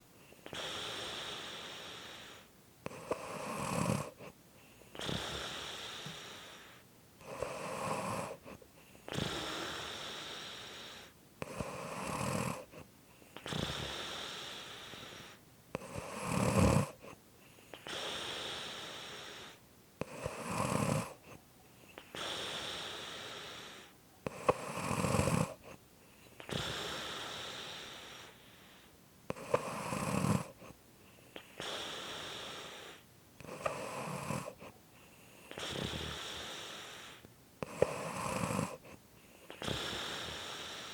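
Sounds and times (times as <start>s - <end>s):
breathy hiss: 0.2s - 40.9s
person snoring: 0.5s - 4.3s, 4.9s - 12.8s, 13.4s - 17.2s, 17.8s - 21.4s, 22.1s - 25.8s, 29.3s - 30.7s, 31.4s - 34.7s, 35.5s - 40.9s.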